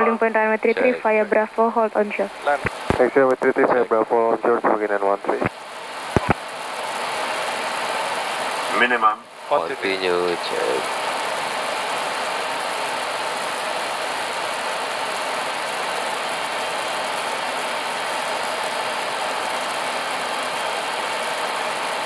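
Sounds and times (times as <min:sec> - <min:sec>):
airflow and engine noise: 0:00.0 - 0:22.0
faint steady hum: 0:00.0 - 0:22.0.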